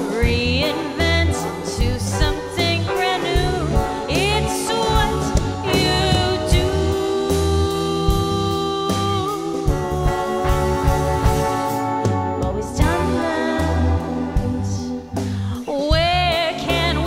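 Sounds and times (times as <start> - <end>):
bass guitar: 0.0 - 17.0
drums with cymbals: 0.0 - 17.0
woman singing: 0.0 - 17.0.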